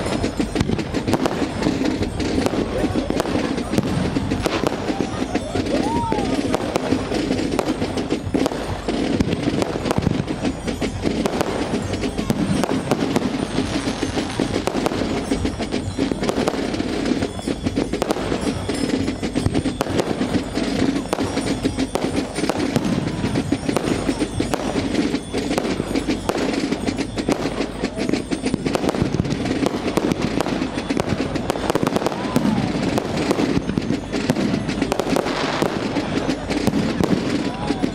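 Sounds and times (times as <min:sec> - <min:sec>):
fireworks crackling and popping: 0:00.0 - 0:37.9.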